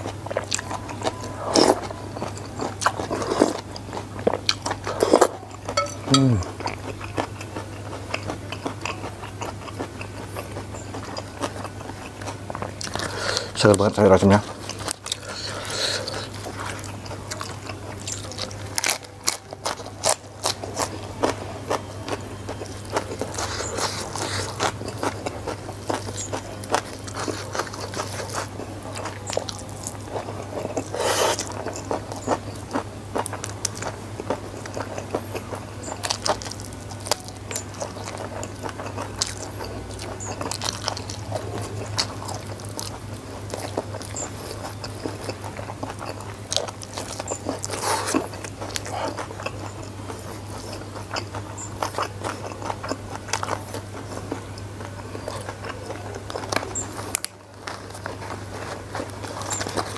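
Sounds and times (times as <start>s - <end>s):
crunching and chewing food: 0.0s - 59.9s
steady low hum: 0.0s - 59.9s.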